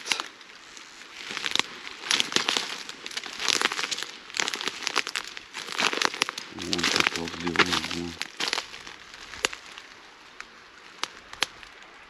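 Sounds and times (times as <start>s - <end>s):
dry reeds and grass rustling: 0.0s - 12.0s.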